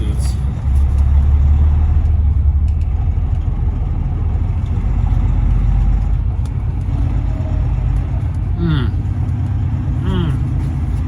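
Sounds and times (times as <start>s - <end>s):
diesel truck engine rumble: 0.0s - 11.0s.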